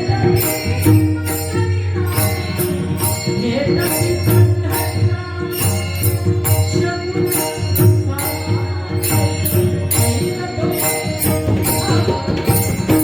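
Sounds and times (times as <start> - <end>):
small hand cymbals: 0.0 - 13.0.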